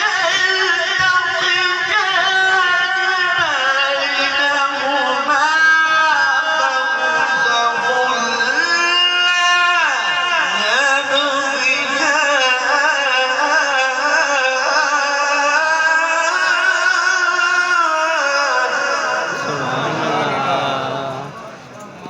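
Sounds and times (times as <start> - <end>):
man chanting melodically: 0.0 - 22.0.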